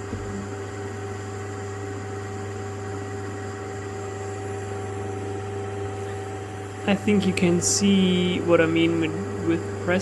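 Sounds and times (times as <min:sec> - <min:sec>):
mechanical hum with drone: 0:00.0 - 0:10.0.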